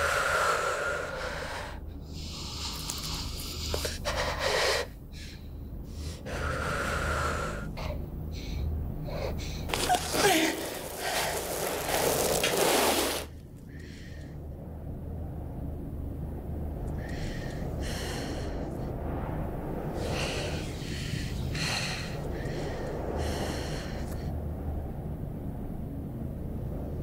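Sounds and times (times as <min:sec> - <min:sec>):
steady low drone: 0:00.0 - 0:27.0.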